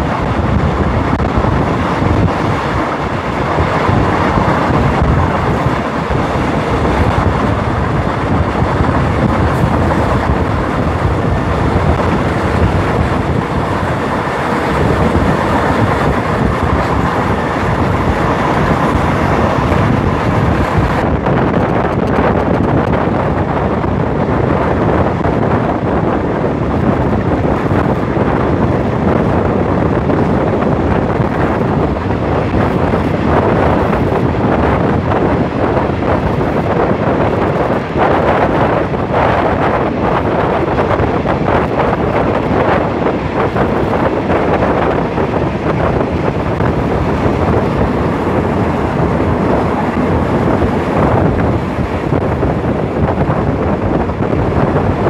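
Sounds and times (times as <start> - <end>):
train wheels rumbling on rails: 0.0 - 55.0
wind buffeting microphone: 0.0 - 55.0.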